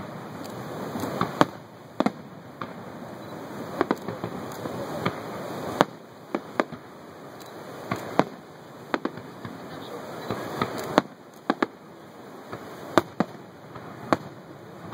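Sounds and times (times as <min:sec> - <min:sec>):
fireworks bursting: 0:00.0 - 0:14.9
steady rushing noise: 0:00.0 - 0:14.9.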